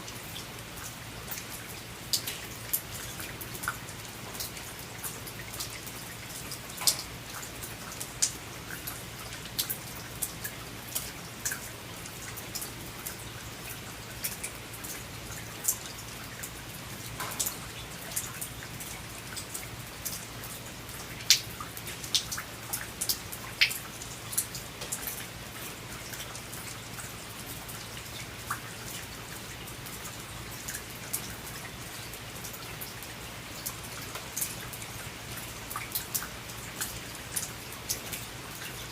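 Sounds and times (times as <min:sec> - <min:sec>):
sharp raindrops striking: 0:00.0 - 0:38.9
steady hiss of rain: 0:00.0 - 0:38.9.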